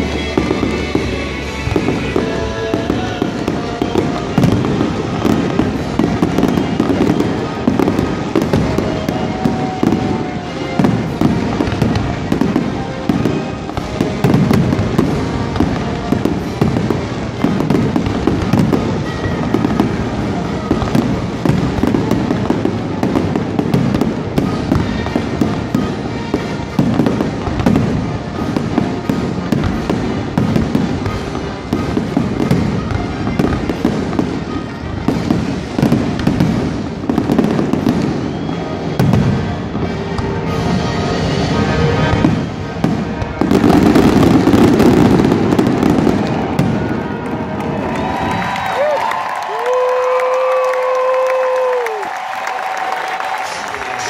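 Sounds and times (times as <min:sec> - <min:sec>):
fireworks booming and cracking: 0:00.0 - 0:54.0.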